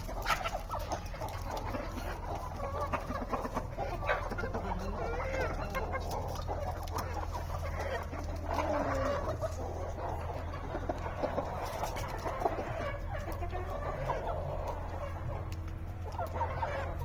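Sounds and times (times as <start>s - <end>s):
hens clucking: 0.0s - 17.0s
steady low hum: 0.0s - 17.0s.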